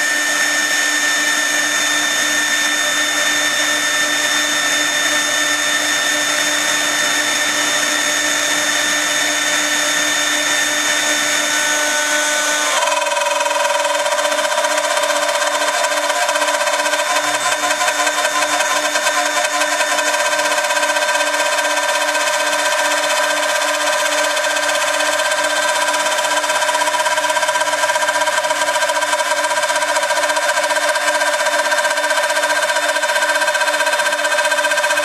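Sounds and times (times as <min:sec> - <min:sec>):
bit cutting through board: 0:00.0 - 0:35.0
router spindle whine: 0:00.0 - 0:35.0.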